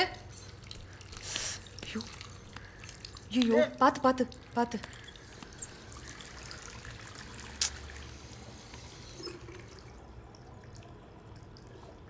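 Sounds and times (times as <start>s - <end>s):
water trickling from a tap: 0.0s - 12.0s.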